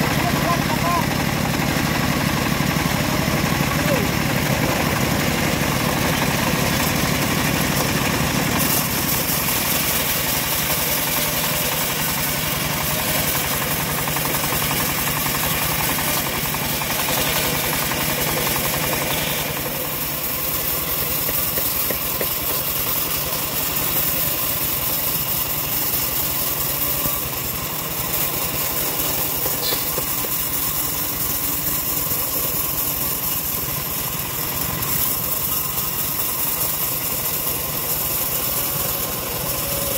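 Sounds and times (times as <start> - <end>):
bandsaw sawing through log: 0.0 - 39.9.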